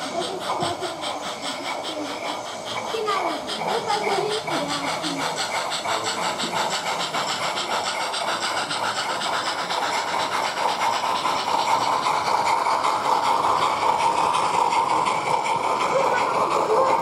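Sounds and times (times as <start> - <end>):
model steam locomotive chuffing: 0.0 - 17.0
train running noise: 0.0 - 17.0.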